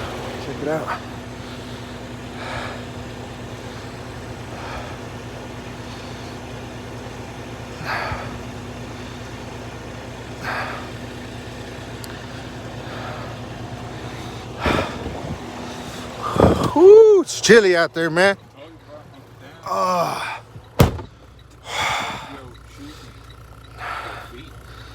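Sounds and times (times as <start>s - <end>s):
diesel truck engine idling: 0.0s - 24.9s.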